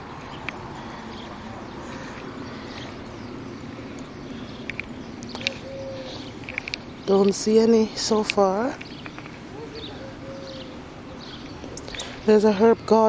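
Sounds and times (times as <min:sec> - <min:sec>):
faint distant murmur: 0:00.0 - 0:13.0
steady background hum: 0:00.0 - 0:13.0.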